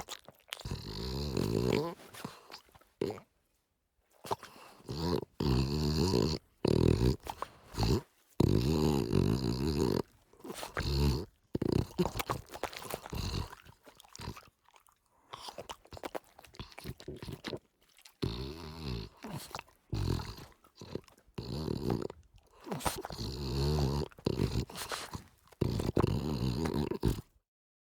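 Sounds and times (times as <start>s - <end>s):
dog purring rumble: 0.0s - 3.2s, 4.3s - 14.4s, 18.2s - 27.3s.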